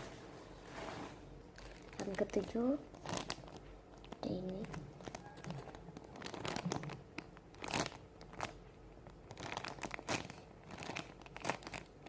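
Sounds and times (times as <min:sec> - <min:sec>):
plastic packaging crinkling: 0:01.5 - 0:12.0.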